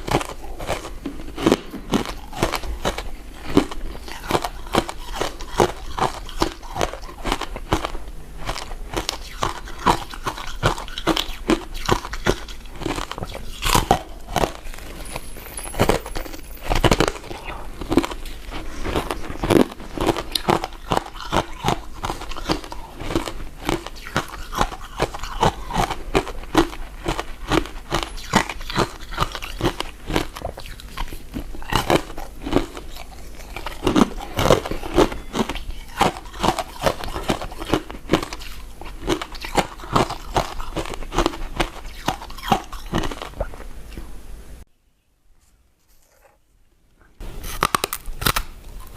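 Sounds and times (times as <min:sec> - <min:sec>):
chewing with mouth smacks: 0:00.0 - 0:44.1.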